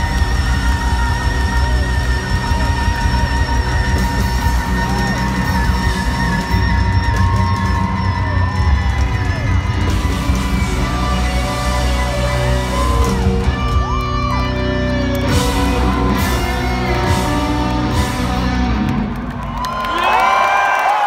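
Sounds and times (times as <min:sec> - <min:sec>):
rock band playing chords: 0:00.0 - 0:19.6
audience whooping and cheering: 0:00.0 - 0:21.0.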